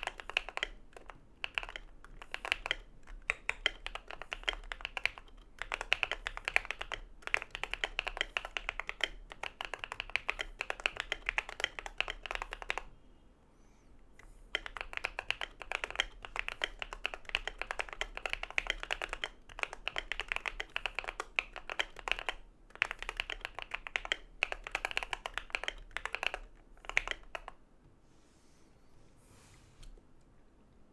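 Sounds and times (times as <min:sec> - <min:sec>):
fast mechanical keyboard typing: 0:00.0 - 0:12.9, 0:14.5 - 0:27.6.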